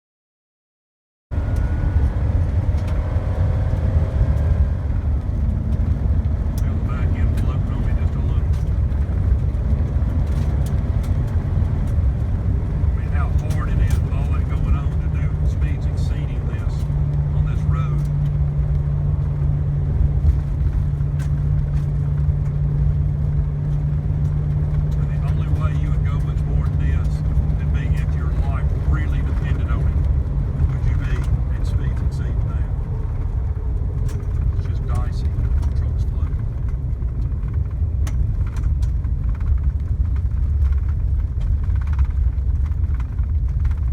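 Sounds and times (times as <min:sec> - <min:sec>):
car engine rumble: 0:01.3 - 0:43.9
constant hum: 0:01.3 - 0:43.9
road noise: 0:01.3 - 0:43.9.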